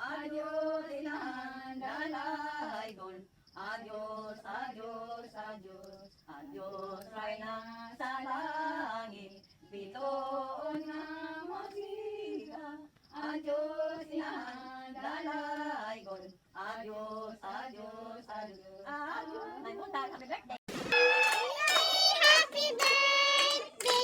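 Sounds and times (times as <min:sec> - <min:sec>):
women singing a hymn: 0:00.0 - 0:20.5, 0:21.5 - 0:24.0.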